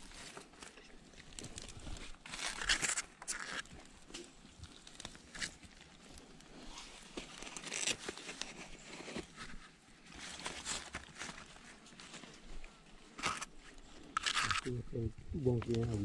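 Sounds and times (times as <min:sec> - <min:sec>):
hands scraping soil and roots: 0:00.0 - 0:14.8.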